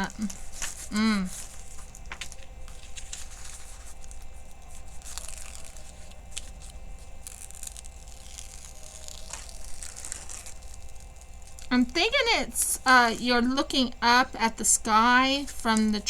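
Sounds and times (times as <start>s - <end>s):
plastic film crinkling: 0.0s - 16.0s.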